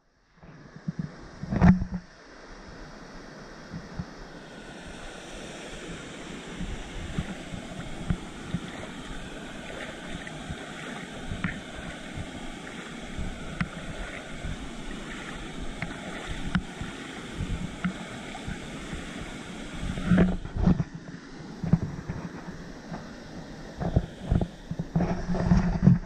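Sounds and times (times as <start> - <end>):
rush of water: 0.3 - 26.0
water lapping and splashing: 0.4 - 26.0.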